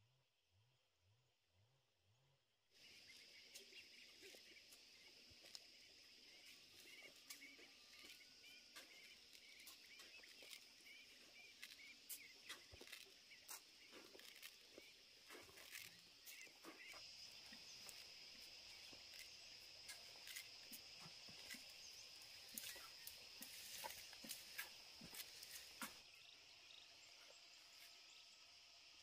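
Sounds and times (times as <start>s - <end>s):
bird chirps: 2.8s - 28.4s
high insect drone: 2.8s - 29.0s.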